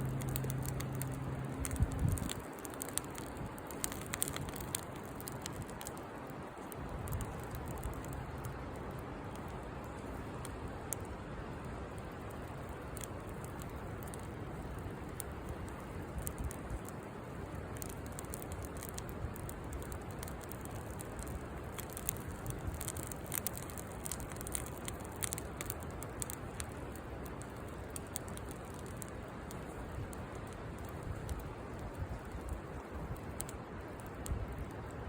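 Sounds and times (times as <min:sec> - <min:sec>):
campfire crackling: 0:00.0 - 0:35.0
fire popping and snapping: 0:00.0 - 0:35.0.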